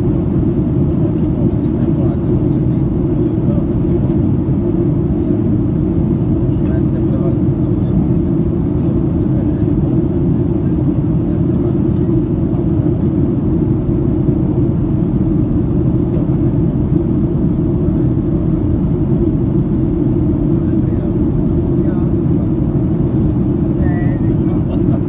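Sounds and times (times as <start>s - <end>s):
airflow over fuselage: 0.0s - 25.0s
airplane cabin engine roar: 0.0s - 25.0s.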